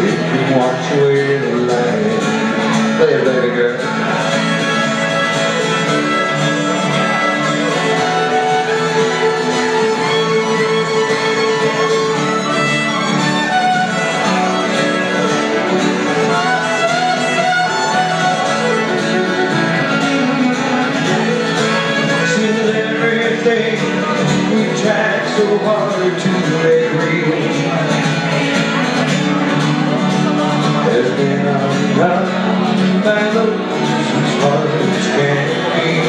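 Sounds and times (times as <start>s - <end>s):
fiddle melody: 0.0s - 36.0s
strummed acoustic guitar: 0.0s - 36.0s.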